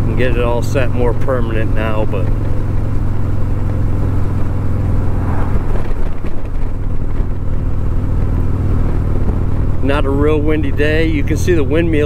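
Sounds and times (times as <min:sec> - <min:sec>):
wind rushing over microphone: 0:00.0 - 0:11.4
motorcycle engine running: 0:00.0 - 0:12.0.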